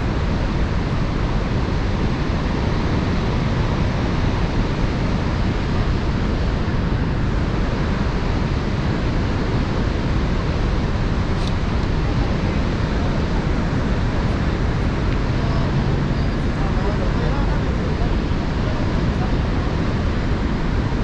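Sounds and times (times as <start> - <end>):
roar of rushing water: 0.0 - 21.0.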